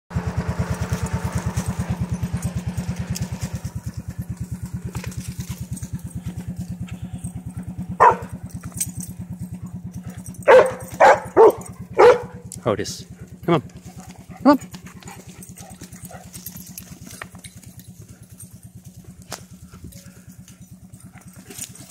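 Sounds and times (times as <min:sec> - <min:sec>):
dogs barking: 0:00.8 - 0:21.9.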